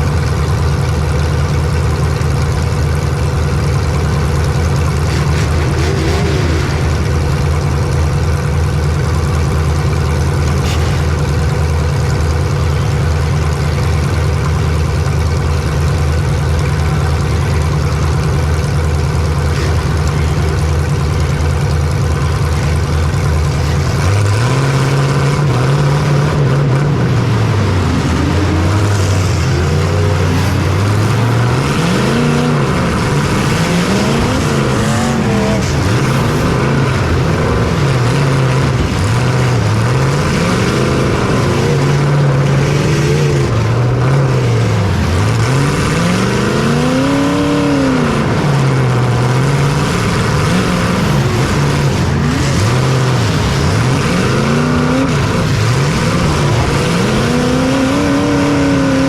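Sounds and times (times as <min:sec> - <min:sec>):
racing engine revving: 0:00.0 - 0:59.0.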